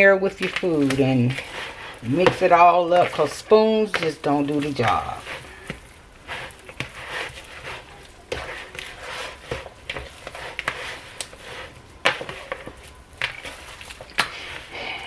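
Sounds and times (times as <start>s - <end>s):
hands squishing meat mixture: 0.0s - 15.0s.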